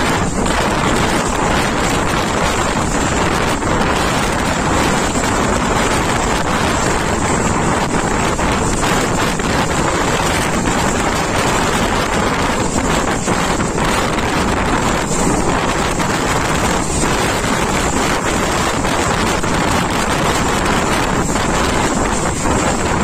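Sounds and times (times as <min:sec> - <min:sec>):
train running on track: 0:00.0 - 0:23.0
wind buffeting microphone: 0:00.0 - 0:23.0.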